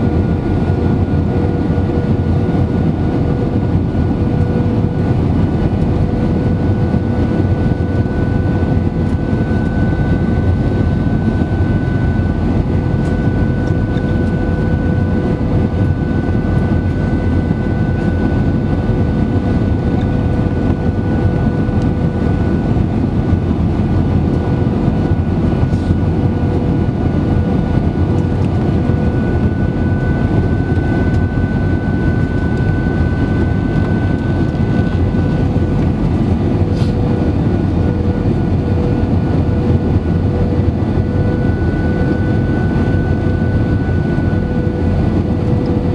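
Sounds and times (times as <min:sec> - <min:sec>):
aircraft engine drone: 0:00.0 - 0:45.9
steady whine tones: 0:00.0 - 0:45.9.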